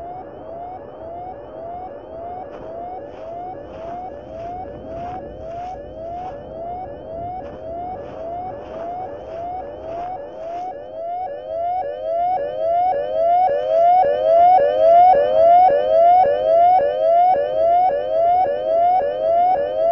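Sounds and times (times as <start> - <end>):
siren-like sweeping tone: 0.0 - 19.9.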